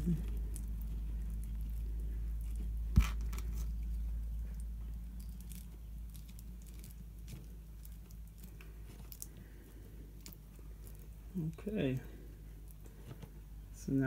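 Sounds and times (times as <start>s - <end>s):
wires clicking and rustling: 0.0s - 13.5s
steady low hum: 0.0s - 14.0s.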